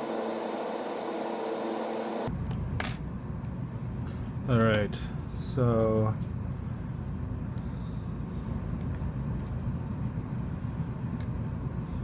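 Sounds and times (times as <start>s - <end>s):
low background rumble: 2.3s - 12.0s.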